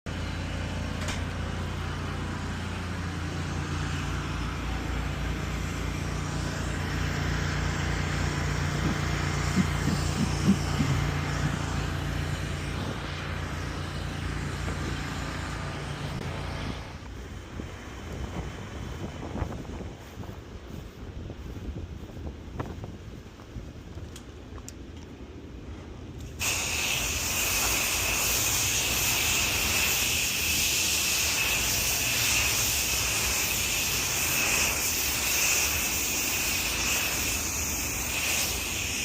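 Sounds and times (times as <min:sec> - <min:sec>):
engine humming: 0:00.1 - 0:39.0
broad rushing noise: 0:01.2 - 0:24.4, 0:25.2 - 0:39.0.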